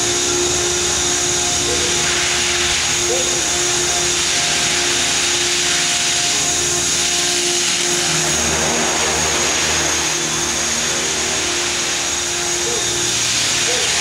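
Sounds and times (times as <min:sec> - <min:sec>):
model helicopter rotor whirring: 0:00.0 - 0:14.0.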